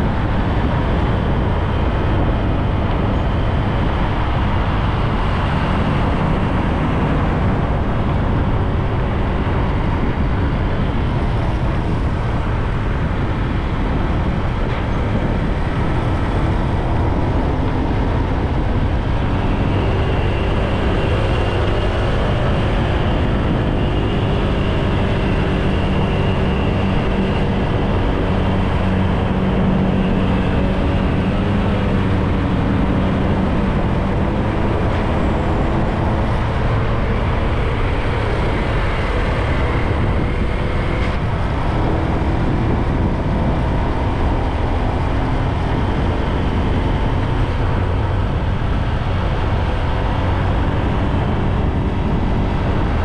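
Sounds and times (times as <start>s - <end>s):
bike road noise: 0.0s - 53.0s
car engine hum: 0.0s - 53.0s
traffic passing: 0.0s - 53.0s
wind buffeting: 0.0s - 53.0s.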